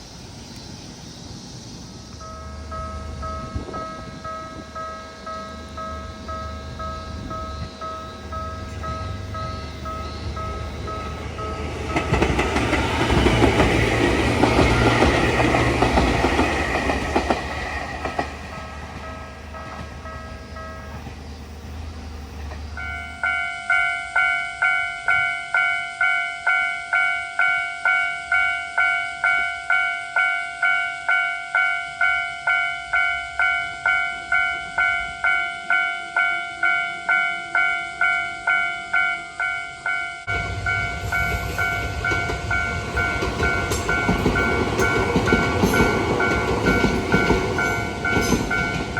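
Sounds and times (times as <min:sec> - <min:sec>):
train passing with rushing noise: 0:00.0 - 0:48.9.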